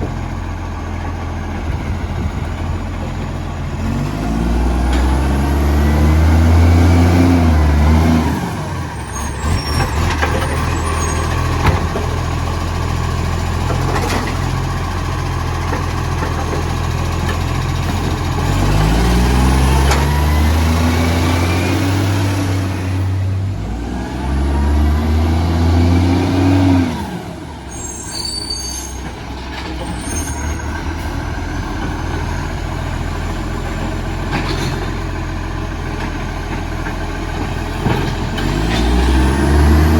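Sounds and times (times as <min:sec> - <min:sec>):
diesel truck engine revving: 0:00.0 - 0:28.3, 0:29.0 - 0:39.9.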